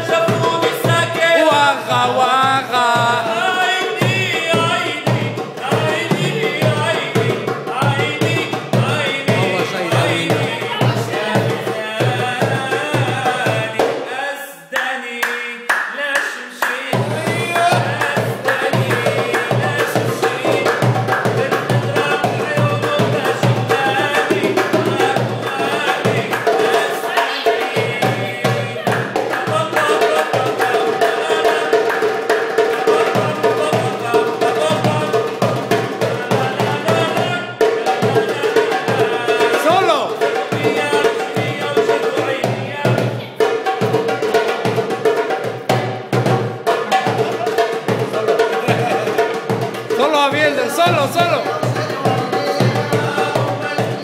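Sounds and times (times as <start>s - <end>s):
fast hand drumming: 0.0s - 14.1s, 16.7s - 54.0s
second hand drum: 0.0s - 14.1s, 16.9s - 54.0s.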